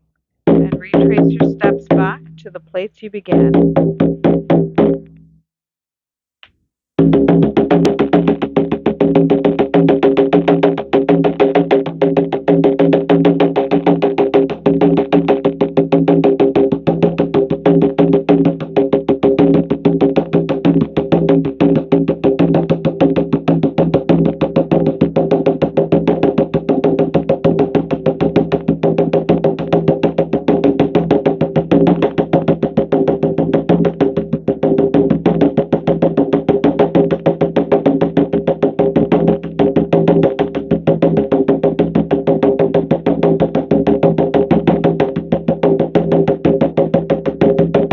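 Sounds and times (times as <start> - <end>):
rapid drum beat: 0.4 - 5.0, 7.0 - 47.9.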